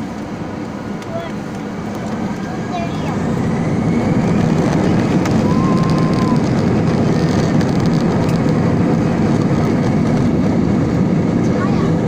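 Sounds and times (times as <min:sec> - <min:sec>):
airplane cabin takeoff rumble: 0:00.0 - 0:12.0.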